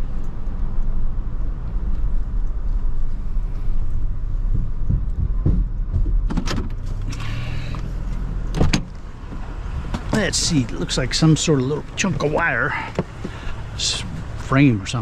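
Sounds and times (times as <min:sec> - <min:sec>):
vehicle road rumble: 0:00.0 - 0:15.0.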